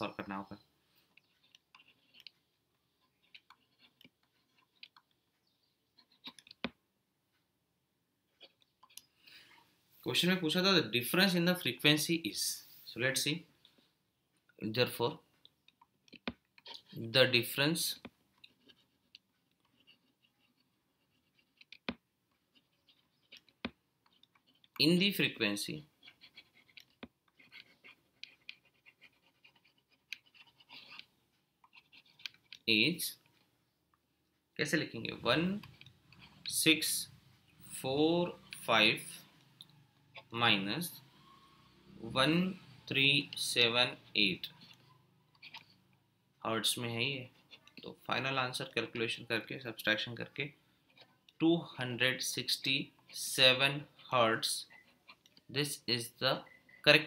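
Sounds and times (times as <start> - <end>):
stylus scratching on a tablet: 0.0 - 6.8, 14.8 - 33.5, 34.7 - 57.0.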